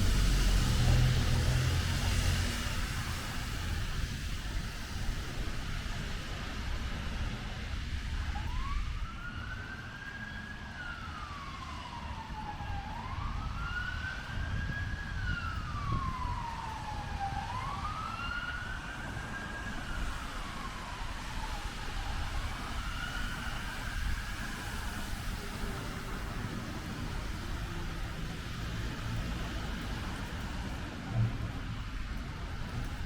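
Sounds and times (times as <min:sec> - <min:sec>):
emergency siren wailing: 0:00.0 - 0:05.5, 0:07.7 - 0:33.0
rain: 0:00.0 - 0:33.0
traffic rumble: 0:00.0 - 0:33.0.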